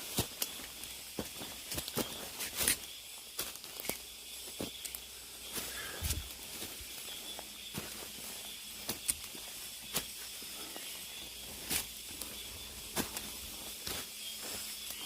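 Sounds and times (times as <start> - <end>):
cicadas buzzing: 0.0 - 15.0
footsteps on a path: 0.0 - 15.0.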